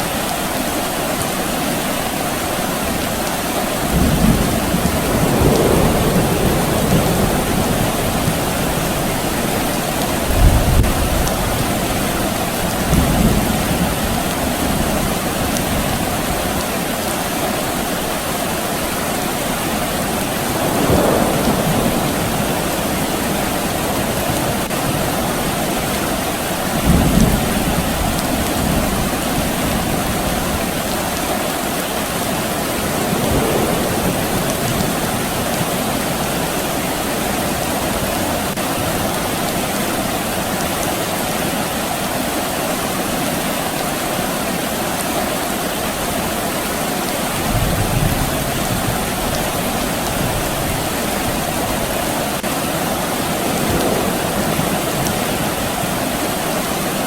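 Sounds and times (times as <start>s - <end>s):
soft rain falling: 0.0s - 57.0s.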